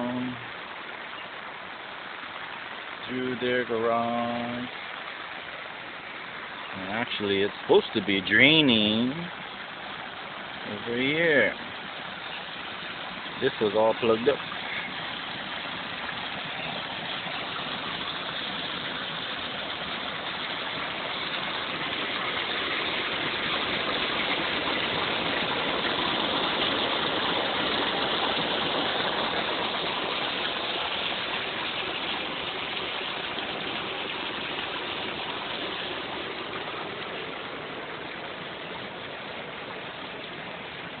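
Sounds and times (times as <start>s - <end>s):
water rushing down a ditch: 0.0s - 41.0s.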